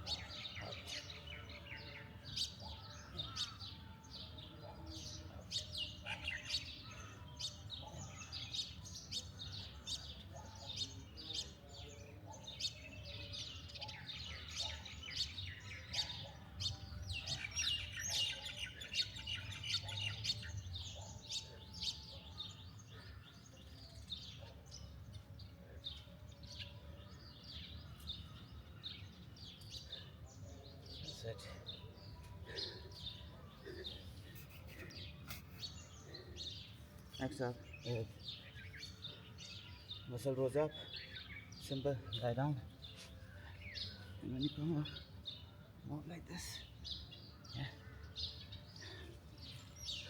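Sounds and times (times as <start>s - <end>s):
birds chirping and calling: 0.0s - 50.0s.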